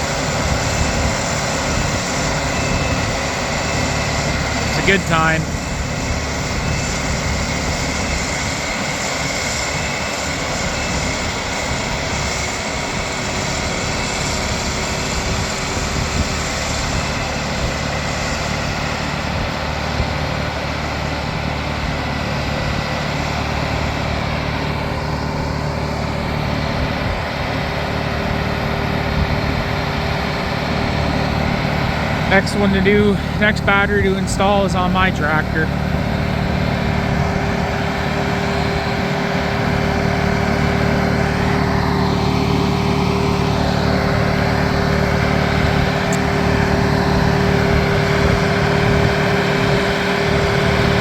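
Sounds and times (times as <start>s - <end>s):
snowblower rushing: 0.0s - 51.0s
tractor diesel engine running: 0.0s - 51.0s.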